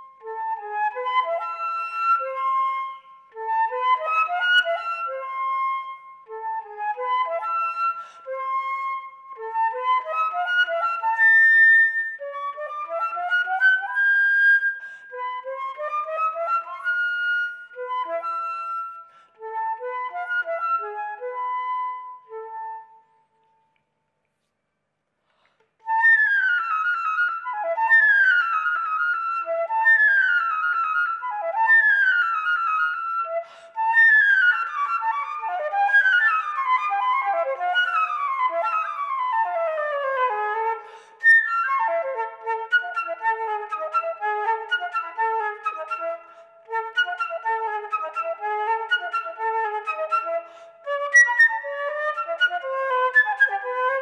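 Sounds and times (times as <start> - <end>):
solo flute playing: 0.0 - 23.8, 25.8 - 54.0.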